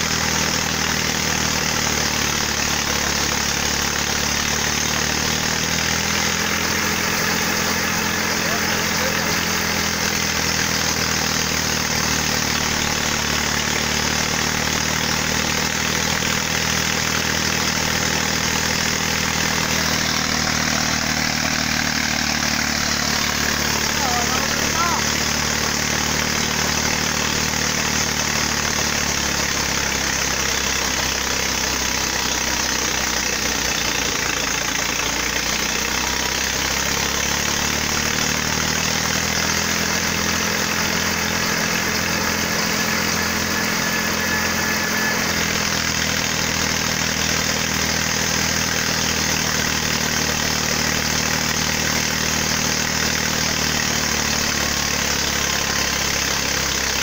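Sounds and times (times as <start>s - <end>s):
thresher and tractor engine running: 0.0s - 57.0s.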